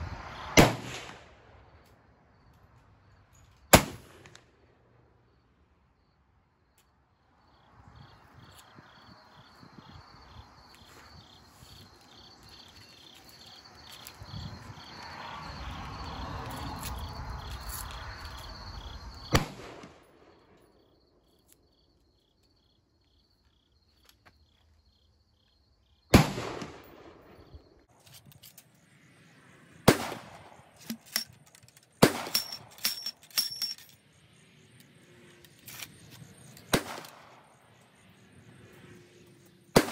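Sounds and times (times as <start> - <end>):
insects chirping: 1.5 - 3.8, 4.8 - 39.9.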